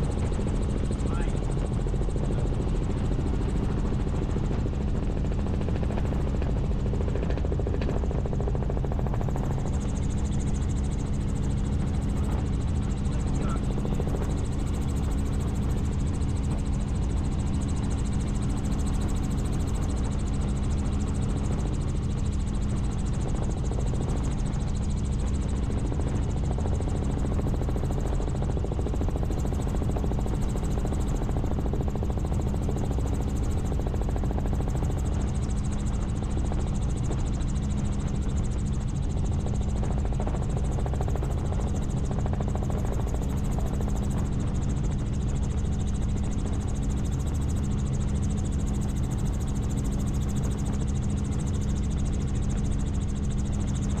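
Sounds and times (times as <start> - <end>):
helicopter rotor and engine drone: 0.0 - 54.0.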